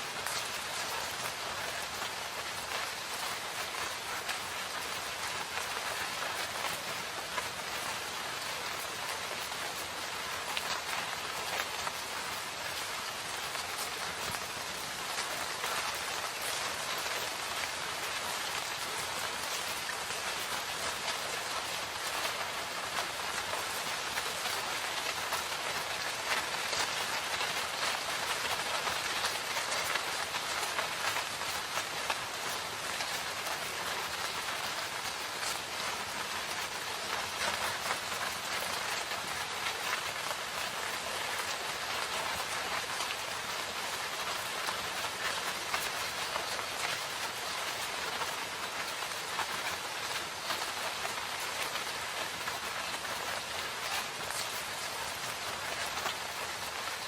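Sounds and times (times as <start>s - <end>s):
heavy rain in a forest: 0.0s - 57.0s.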